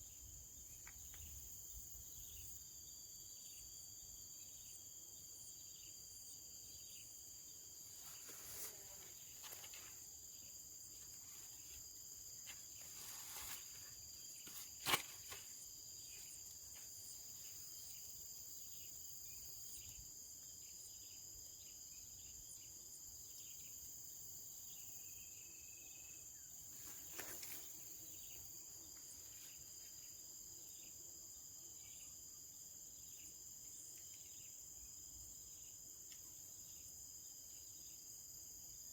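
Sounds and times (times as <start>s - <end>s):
insect chorus chirring: 0.0s - 38.9s.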